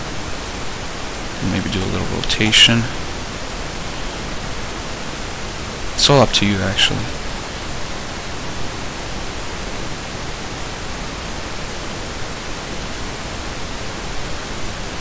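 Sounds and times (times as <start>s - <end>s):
recording hiss: 0.0s - 15.0s.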